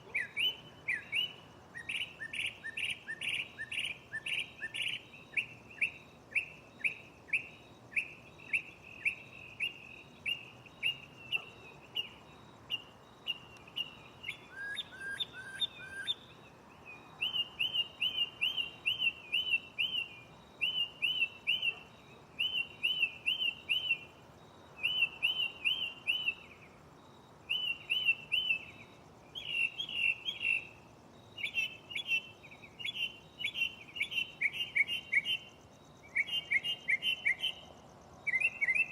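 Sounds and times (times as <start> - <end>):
mockingbird singing: 0.0 - 24.1, 24.8 - 26.6, 27.5 - 30.8, 31.4 - 37.6, 38.3 - 38.9.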